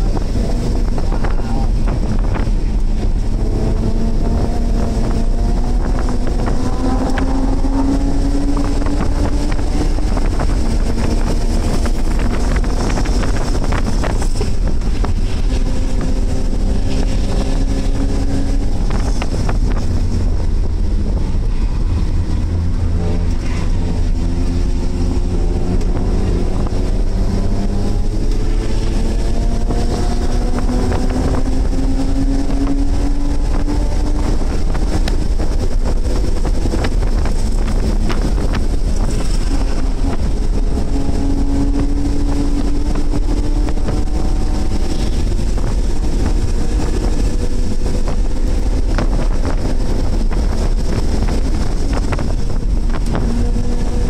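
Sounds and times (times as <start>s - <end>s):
car engine revving: 0.0s - 54.0s
wind and road noise: 0.0s - 54.0s.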